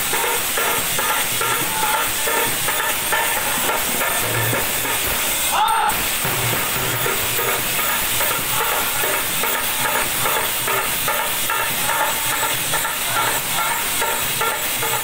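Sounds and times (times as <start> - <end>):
barrel drum: 0.0 - 15.0
brass hand cymbals clashing: 0.0 - 15.0.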